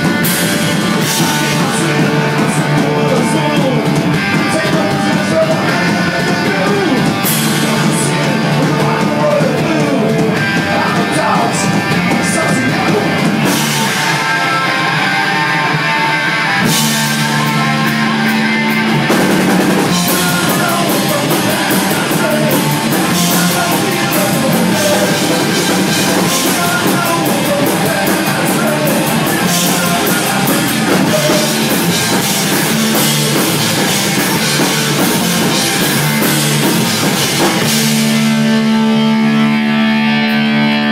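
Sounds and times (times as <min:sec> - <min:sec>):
man singing: 0:00.0 - 0:38.2
bass guitar: 0:00.0 - 0:40.9
drum kit: 0:00.0 - 0:40.9
electric guitars: 0:00.0 - 0:40.9.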